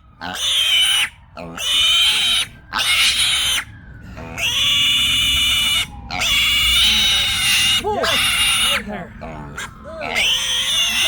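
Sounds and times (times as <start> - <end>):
pig screaming: 0.2 - 3.7, 4.3 - 11.0.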